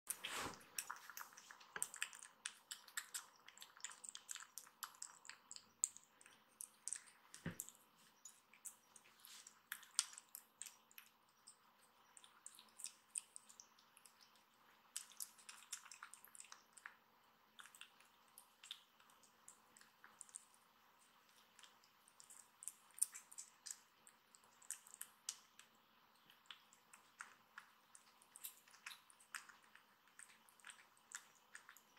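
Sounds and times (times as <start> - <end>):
kitten eating wet food: 0.1 - 31.9.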